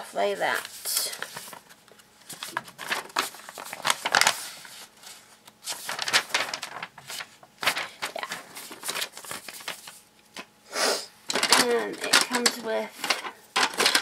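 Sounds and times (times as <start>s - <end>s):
packaging crinkling and rustling: 0.4s - 10.5s, 11.3s - 14.0s.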